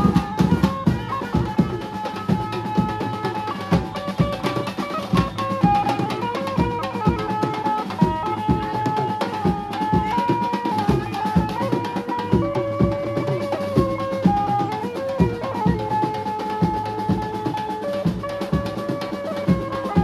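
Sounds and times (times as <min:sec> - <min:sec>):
drums beating a steady rhythm: 0:00.0 - 0:20.0.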